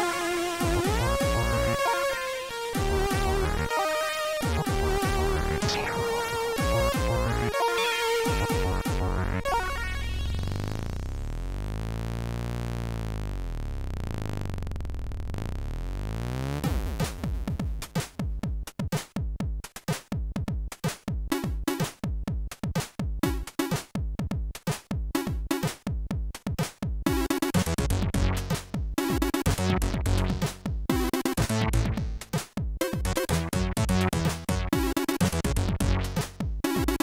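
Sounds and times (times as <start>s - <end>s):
choppy electronic drum beat: 0.0s - 11.1s, 16.2s - 37.0s.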